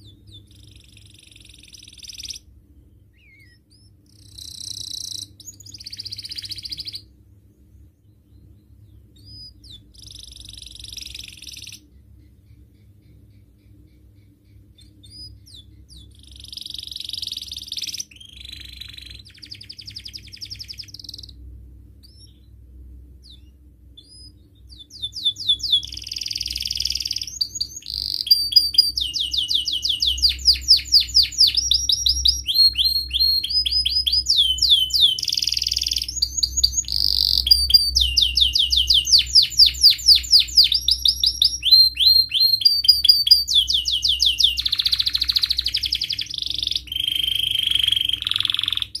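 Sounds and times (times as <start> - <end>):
canary singing trills: 0.0 - 49.0.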